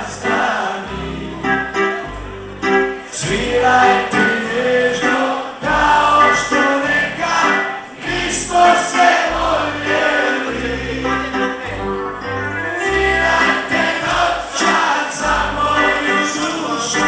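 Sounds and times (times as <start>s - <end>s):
voices singing in chorus: 0.0s - 1.9s, 3.0s - 17.0s
steady bass line: 0.0s - 14.6s, 15.2s - 17.0s
live band playing slow song: 0.0s - 17.0s.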